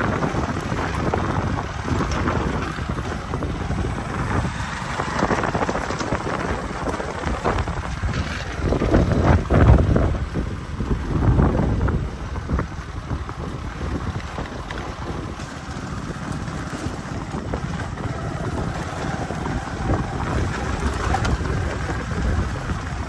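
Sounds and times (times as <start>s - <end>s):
vehicle low rumble: 0.0s - 23.0s
wind buffeting microphone: 0.0s - 23.0s.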